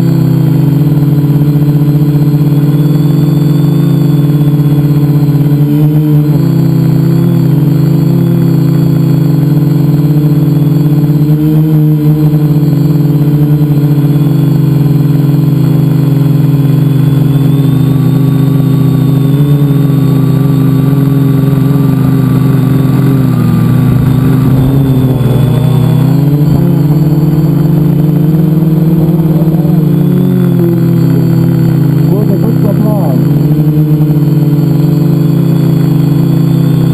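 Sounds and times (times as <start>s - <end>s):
drone propellers humming: 0.0s - 36.9s.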